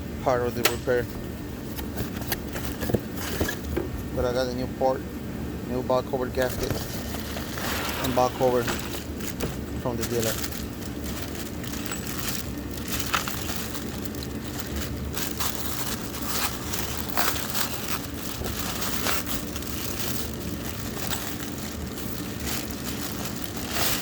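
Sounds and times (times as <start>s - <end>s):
packaging crinkling and rustling: 1.5s - 3.8s, 6.2s - 24.0s.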